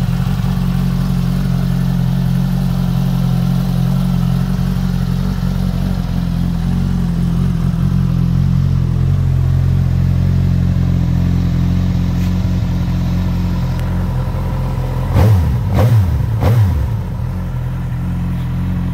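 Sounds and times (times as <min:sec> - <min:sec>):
motorcycle engine idling and revving: 0:00.0 - 0:18.9.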